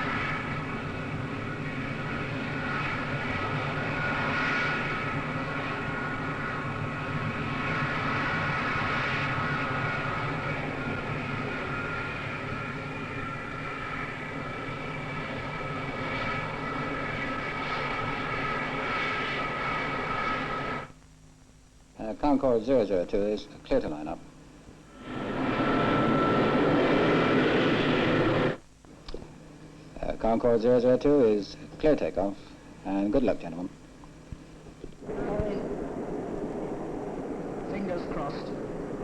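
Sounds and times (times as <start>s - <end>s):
jet engines whining: 0.0s - 21.0s, 23.8s - 39.0s.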